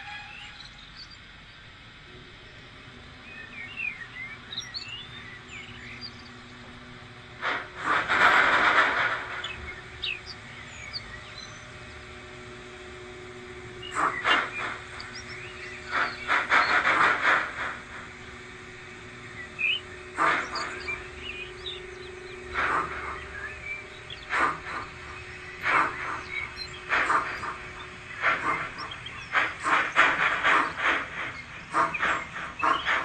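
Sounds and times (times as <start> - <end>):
model locomotive steam chuffs: 0.0 - 33.0
steady hum: 0.0 - 33.0.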